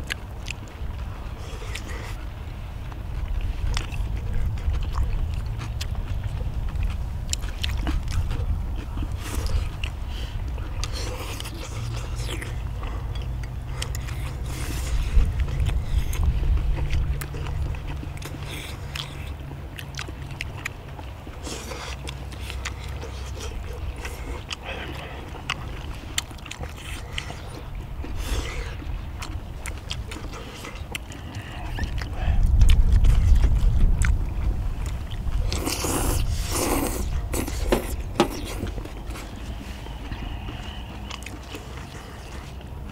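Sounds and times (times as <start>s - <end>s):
people chewing: 0.0s - 42.9s
steady low rumble: 0.0s - 42.9s.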